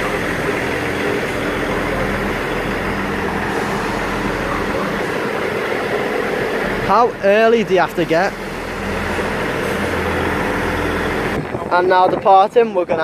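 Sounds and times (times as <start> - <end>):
diesel train engine idling: 0.0 - 12.8.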